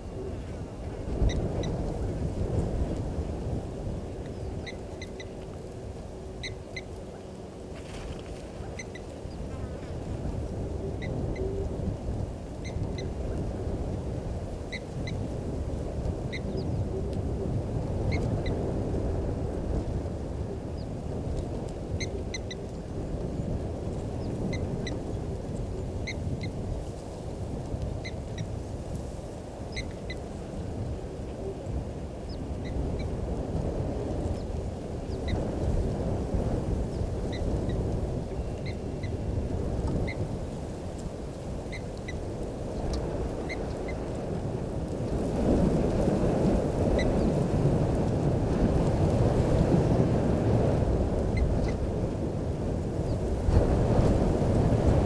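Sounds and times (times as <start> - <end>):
wind rumbling on microphone: 0.0 - 55.0.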